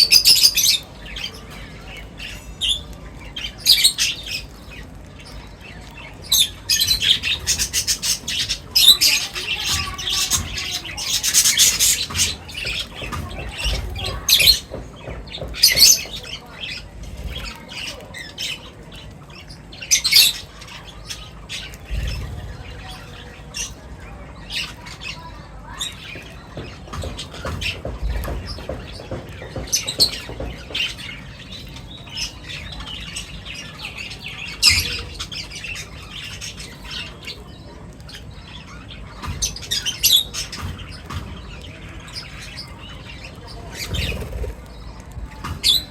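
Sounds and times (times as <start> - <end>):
birds squawking and chirping: 0.0 - 45.9.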